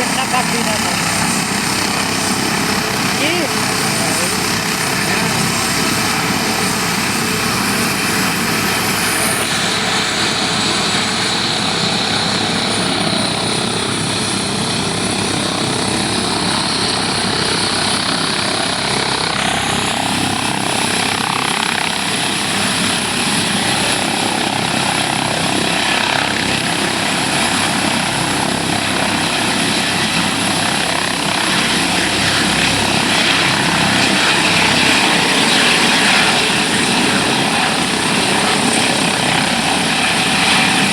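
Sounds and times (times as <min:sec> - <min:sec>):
helicopter running: 0:00.0 - 0:40.9.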